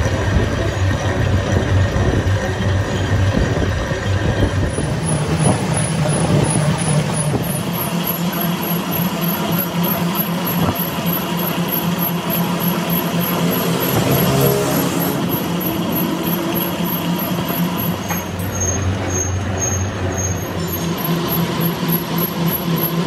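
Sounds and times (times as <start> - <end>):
heavy machinery running: 0.0 - 23.0.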